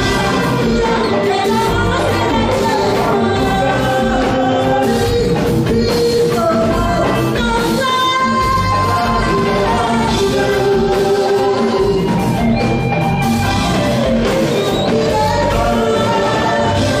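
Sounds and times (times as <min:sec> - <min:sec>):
live band music with singing: 0:00.0 - 0:17.0.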